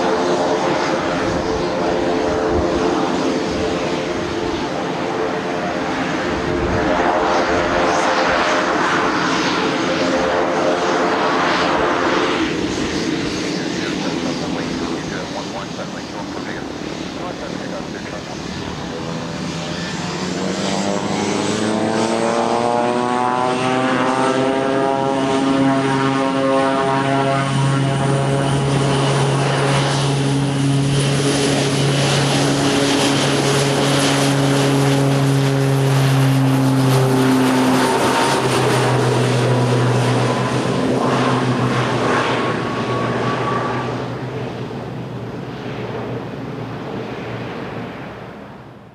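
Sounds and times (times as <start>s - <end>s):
propeller airplane engine running: 0.0s - 48.9s.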